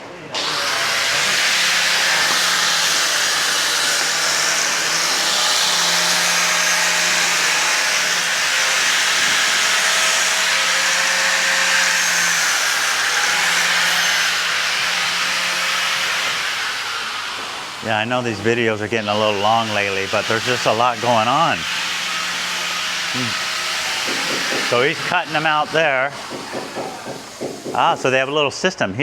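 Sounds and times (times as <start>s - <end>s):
power tool grinding marble: 0.4s - 28.4s.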